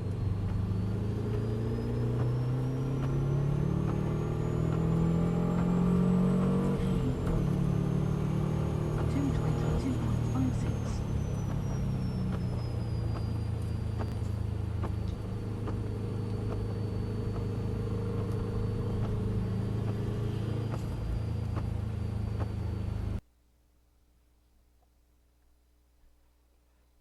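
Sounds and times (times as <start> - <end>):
car engine droning: 0.0 - 23.2.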